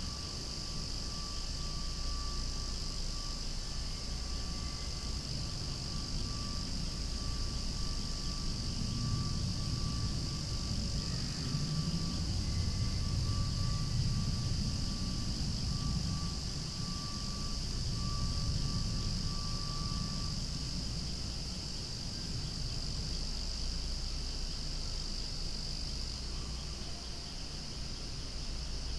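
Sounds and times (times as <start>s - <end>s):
cicadas singing: 0.0s - 28.9s.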